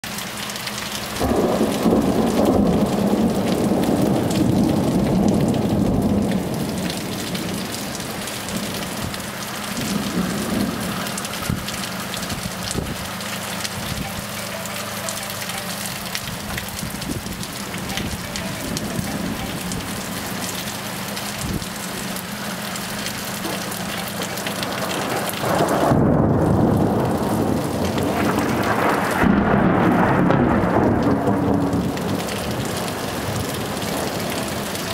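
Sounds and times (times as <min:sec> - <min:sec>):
heavy rain: 0:00.0 - 0:34.9
rolling thunder: 0:01.2 - 0:14.2, 0:16.0 - 0:20.6, 0:23.4 - 0:34.9.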